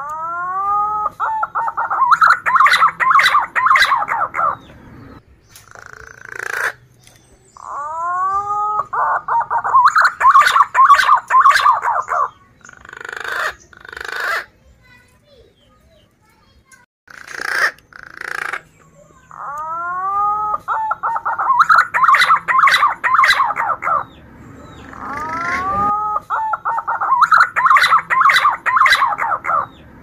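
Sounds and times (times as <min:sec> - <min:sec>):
pigeon whistling and warbling: 0:00.0 - 0:14.5, 0:17.2 - 0:29.9.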